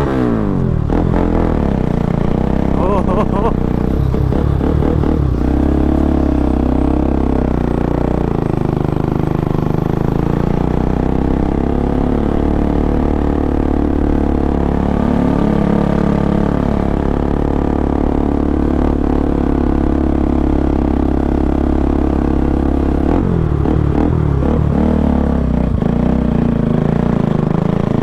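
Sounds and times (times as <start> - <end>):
loud motorcycle engine revving: 0.0 - 28.0.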